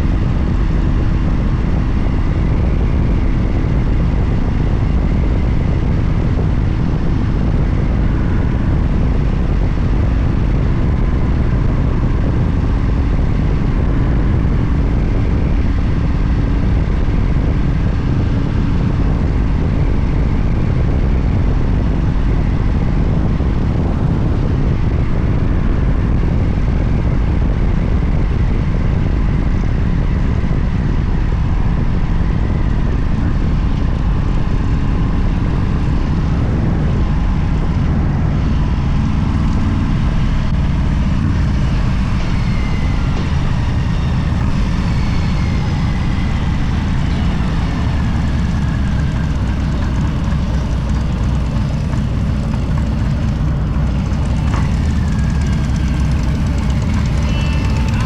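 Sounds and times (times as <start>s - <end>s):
vehicle running rumble: 0.0s - 58.0s.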